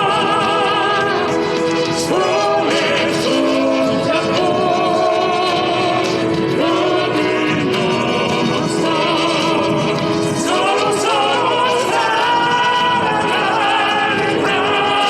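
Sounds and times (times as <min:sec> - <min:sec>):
backing music: 0:00.0 - 0:15.0
people singing with vibrato: 0:00.0 - 0:15.0.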